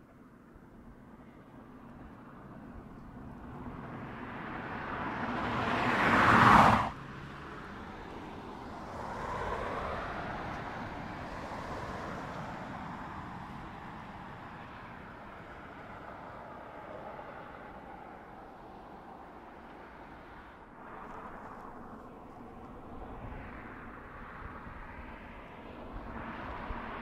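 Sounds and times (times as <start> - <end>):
car driving past: 3.4 - 27.0.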